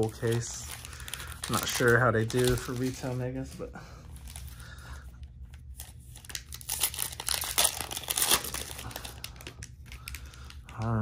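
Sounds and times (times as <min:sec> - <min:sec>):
foil wrapper crinkling: 0:00.0 - 0:03.5, 0:05.5 - 0:11.0.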